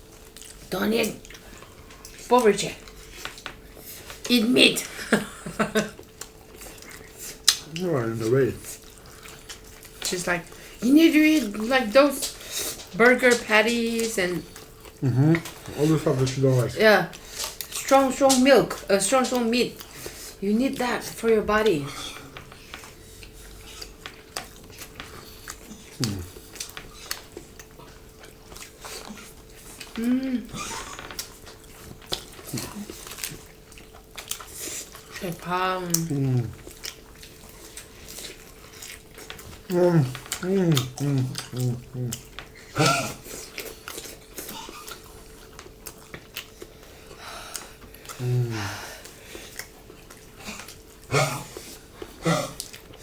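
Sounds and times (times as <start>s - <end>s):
chewing: 0.0s - 53.0s.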